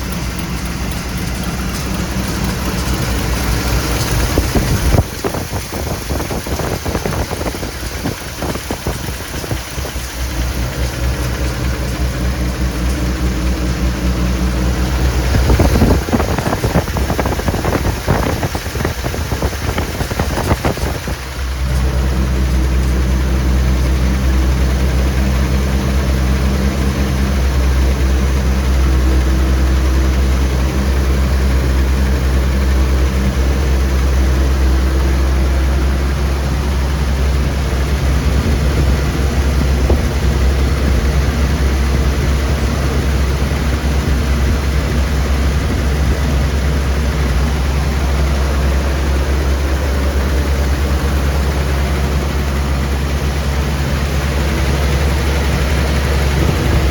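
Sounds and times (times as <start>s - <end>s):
truck engine idling: 0.0s - 56.9s.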